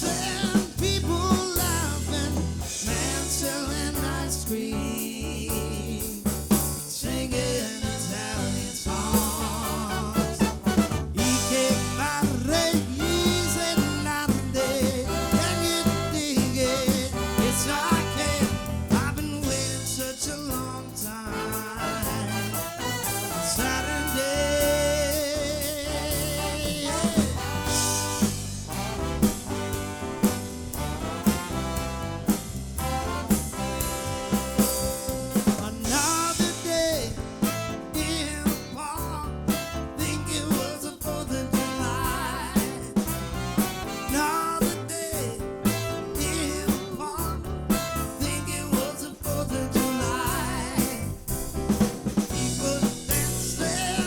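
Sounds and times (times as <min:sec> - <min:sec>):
drum kit beat: 0:00.0 - 0:54.0
live soul band playing: 0:00.0 - 0:54.0.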